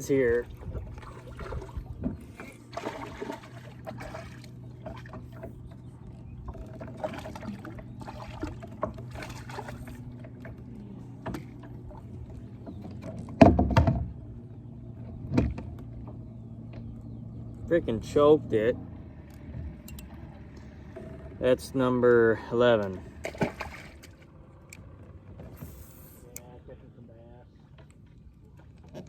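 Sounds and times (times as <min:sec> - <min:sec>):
steady low hum: 0:00.0 - 0:28.8
water sounds: 0:00.0 - 0:29.0.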